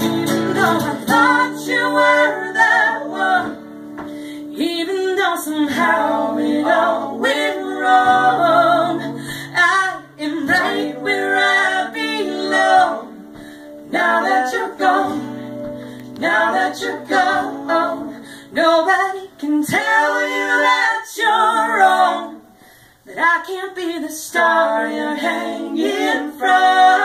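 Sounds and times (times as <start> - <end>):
woman singing: 0.0 - 3.6, 4.3 - 15.4, 16.2 - 27.0
acoustic guitar: 0.0 - 27.0.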